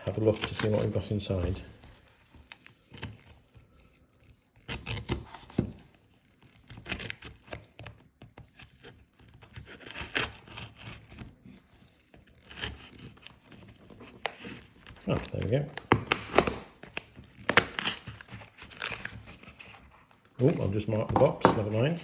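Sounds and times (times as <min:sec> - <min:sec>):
knife scraping through packaging: 0:00.0 - 0:22.0
wrapping ripping and tearing: 0:00.0 - 0:22.0.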